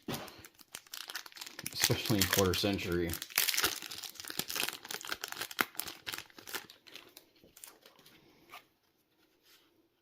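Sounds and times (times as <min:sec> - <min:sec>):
cards and wrapper rustling: 0:00.0 - 0:08.6.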